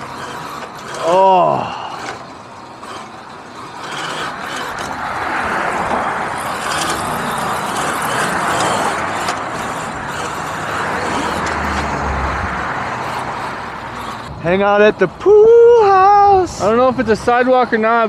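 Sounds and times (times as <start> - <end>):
wind and tyres rushing: 0.0 - 18.0.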